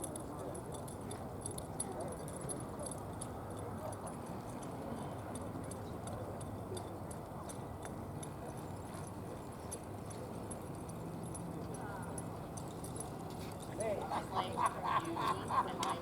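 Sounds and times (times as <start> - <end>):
background hum: 0.0 - 16.0.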